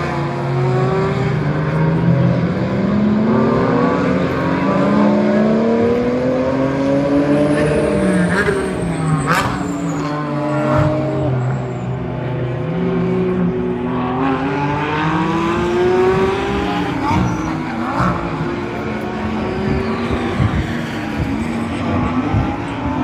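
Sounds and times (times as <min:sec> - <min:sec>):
race car engines at high revs: 0:00.0 - 0:23.0.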